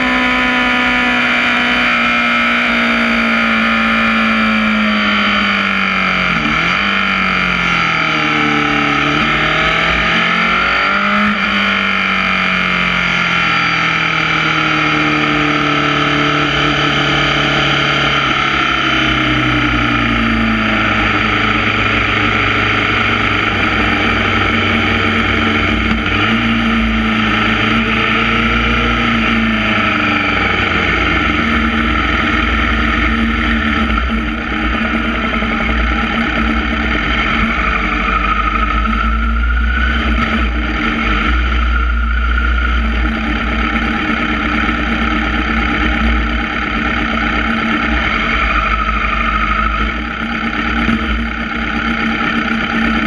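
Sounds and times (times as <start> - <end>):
motorcycle engine slowing: 0.0 - 53.0.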